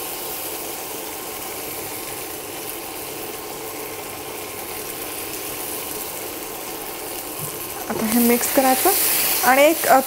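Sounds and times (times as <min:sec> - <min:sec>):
paste sizzling in butter: 0:00.0 - 0:10.0.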